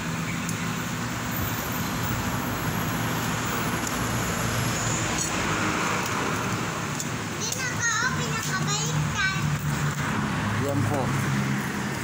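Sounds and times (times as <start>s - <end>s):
road traffic noise: 0.0s - 12.0s
vehicle passing: 1.0s - 12.0s.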